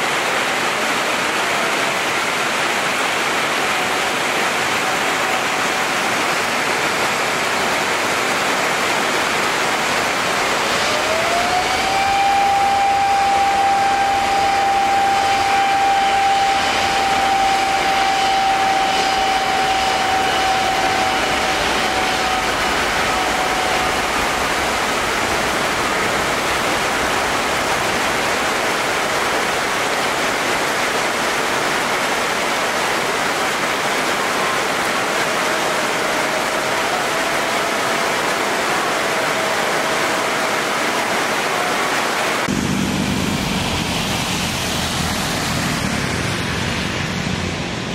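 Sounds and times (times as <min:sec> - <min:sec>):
heavy rain: 0:00.0 - 0:47.9
high engine whine: 0:00.0 - 0:47.9
jet engine noise: 0:00.0 - 0:47.9.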